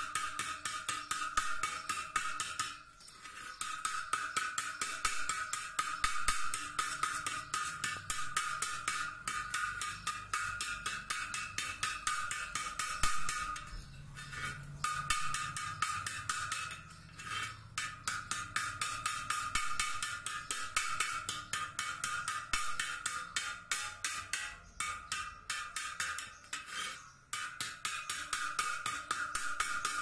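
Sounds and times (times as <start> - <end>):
sandpaper rasping on metal: 0.0 - 30.0.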